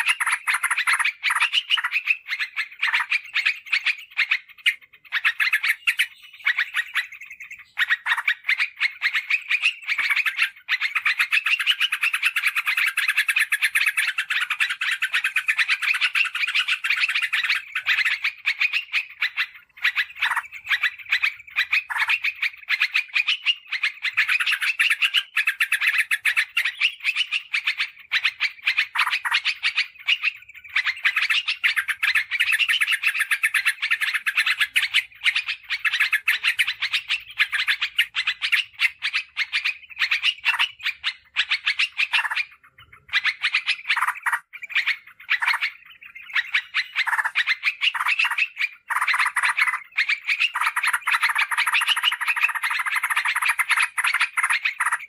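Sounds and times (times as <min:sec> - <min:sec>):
bird chattering calls: 0:00.0 - 0:55.0.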